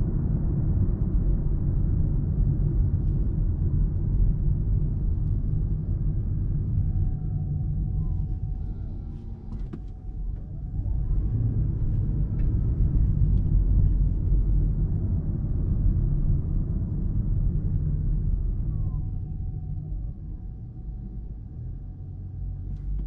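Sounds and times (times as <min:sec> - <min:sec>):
road and tyre rumble: 0:00.0 - 0:23.0
faint whine rising and falling: 0:02.5 - 0:23.0.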